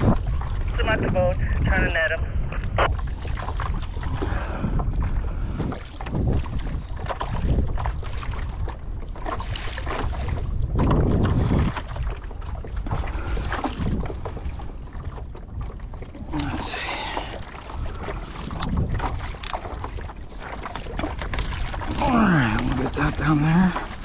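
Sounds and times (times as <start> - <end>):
water washing along kayak hull: 0.0 - 24.0
wind gusting on microphone: 0.0 - 24.0.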